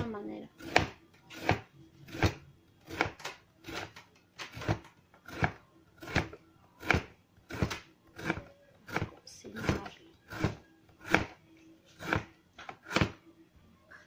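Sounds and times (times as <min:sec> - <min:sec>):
knife cutting on plastic board: 0:00.6 - 0:13.2.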